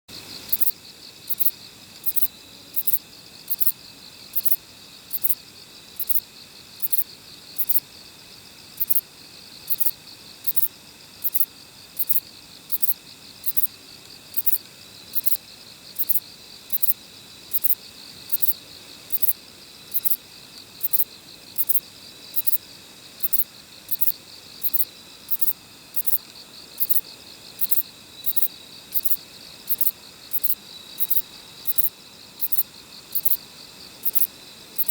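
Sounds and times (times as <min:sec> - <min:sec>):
lower insect trill: 0:00.1 - 0:34.9.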